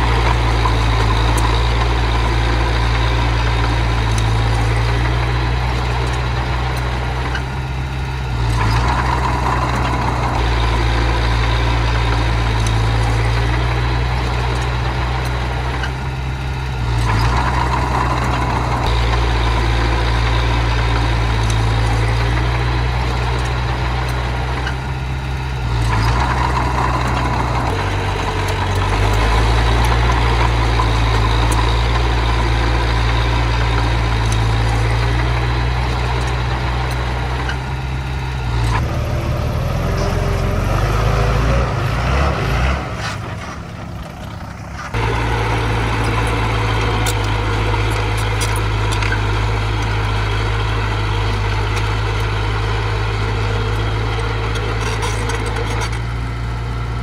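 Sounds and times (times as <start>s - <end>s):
diesel engine of earthmover running: 0.0s - 57.0s.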